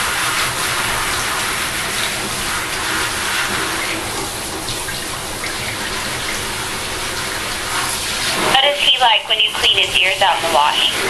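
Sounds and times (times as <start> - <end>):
shower water spraying into tub: 0.0 - 11.0.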